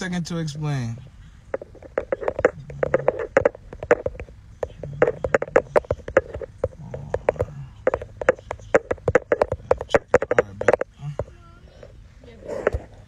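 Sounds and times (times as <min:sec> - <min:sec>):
rapid light clicks: 0:00.8 - 0:12.0.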